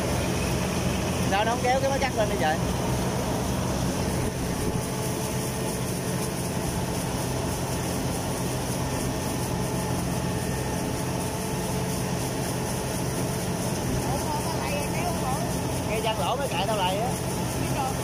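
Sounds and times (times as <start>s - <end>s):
harvester diesel engine running: 0.0s - 18.0s.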